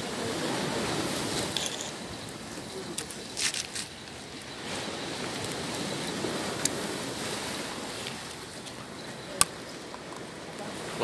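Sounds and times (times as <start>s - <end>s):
sea waves on shore: 0.0s - 11.0s.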